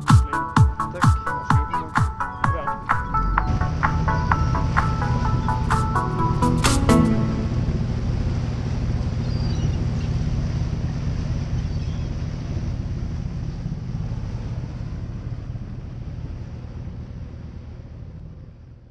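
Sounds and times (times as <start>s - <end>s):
water rushing in wake: 0.0s - 18.8s
boat engine running: 0.0s - 18.9s.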